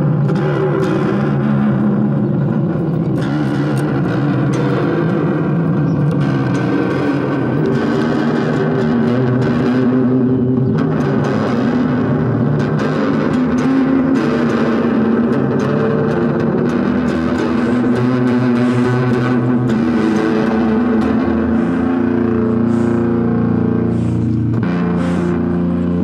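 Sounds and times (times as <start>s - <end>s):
rock music with distorted guitar: 0.0s - 26.0s.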